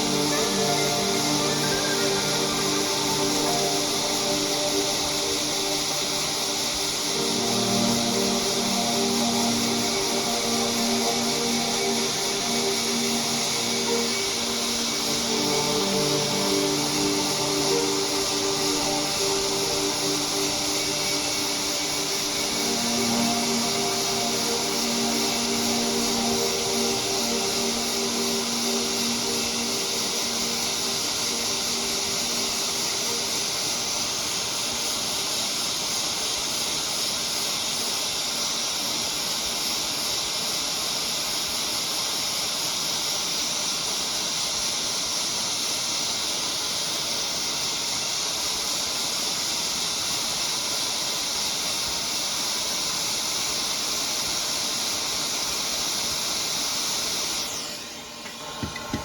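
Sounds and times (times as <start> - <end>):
hot-air station hissing: 0.0 - 59.0.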